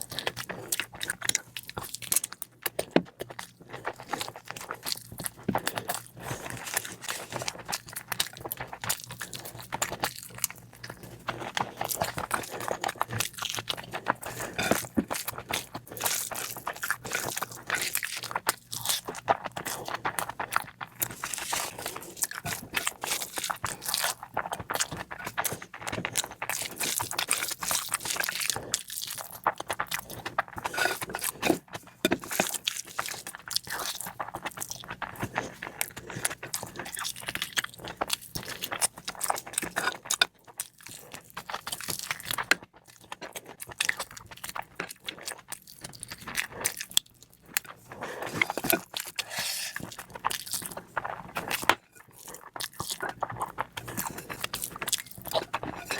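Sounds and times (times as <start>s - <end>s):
wet chewing and crunching: 0.0s - 55.9s.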